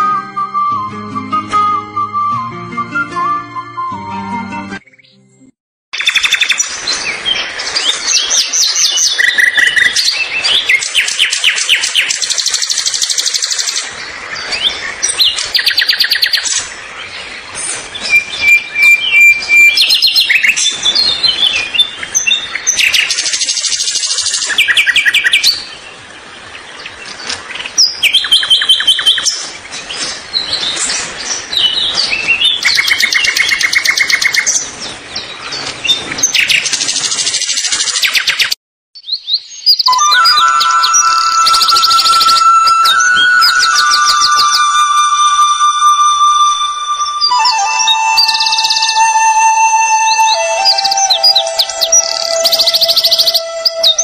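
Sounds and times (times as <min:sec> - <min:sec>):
songbird singing trills: 0:06.0 - 0:25.9, 0:26.8 - 0:54.0.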